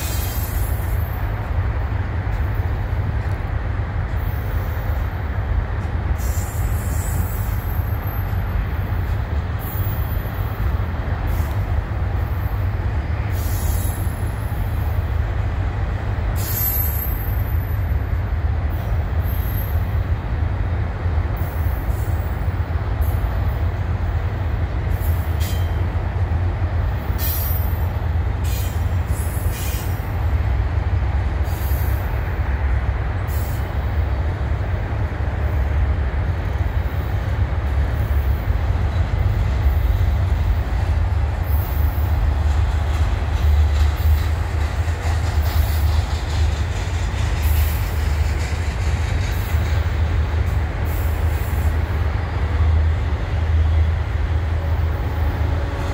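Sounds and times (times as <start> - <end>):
freight train rumbling on rails: 0.0 - 55.9.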